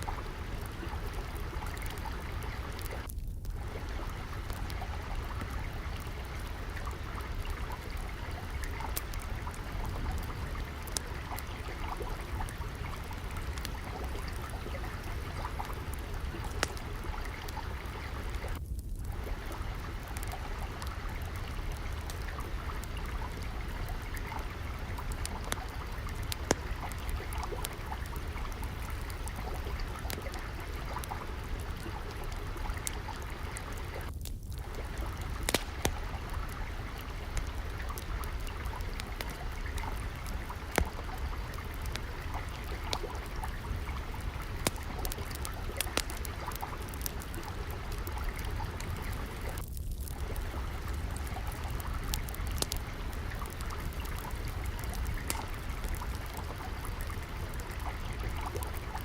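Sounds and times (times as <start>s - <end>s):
flowing water: 0.0s - 59.0s
wood fire crackling: 0.0s - 59.0s.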